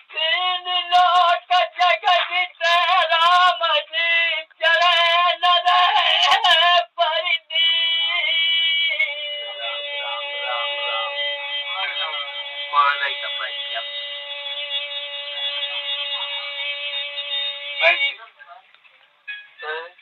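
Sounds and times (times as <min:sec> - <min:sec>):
person singing folk song: 0:00.0 - 0:18.3.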